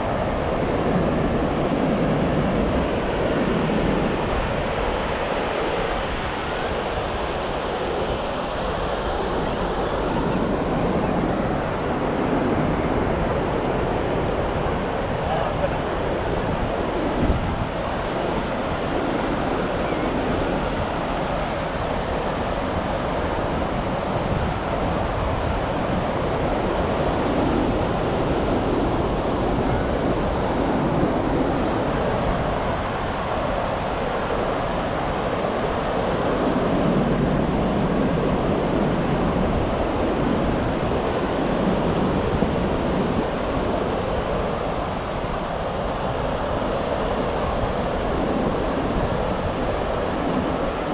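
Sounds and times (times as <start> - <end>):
ocean surf on beach: 0.0 - 50.9
wind buffeting microphone: 0.0 - 50.9.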